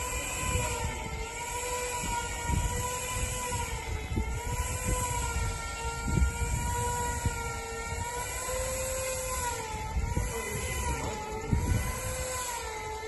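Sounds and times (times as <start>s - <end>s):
aircraft tug motor whining: 0.0s - 13.0s.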